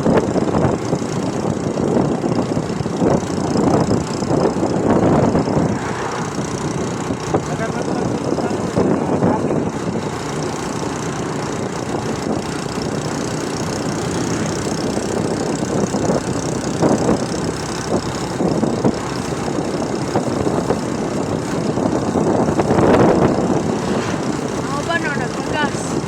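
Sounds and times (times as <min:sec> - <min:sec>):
traffic rumble and hiss: 0:00.0 - 0:26.0
vehicle engine running: 0:00.0 - 0:26.0.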